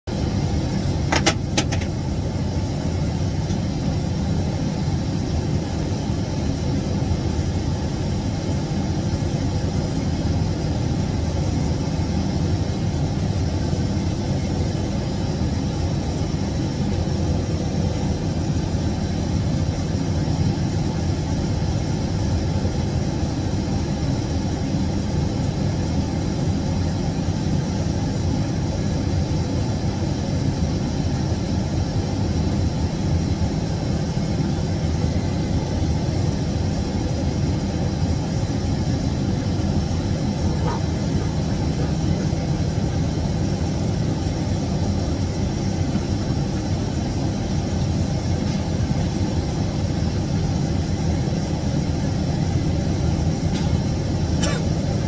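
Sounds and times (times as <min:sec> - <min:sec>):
airliner cabin roar: 0:00.1 - 0:55.0.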